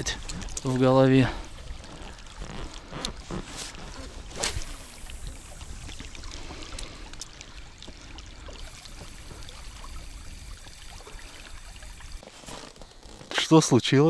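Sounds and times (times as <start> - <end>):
small splashes: 0.0 - 13.3
river water lapping around boat: 0.0 - 13.6.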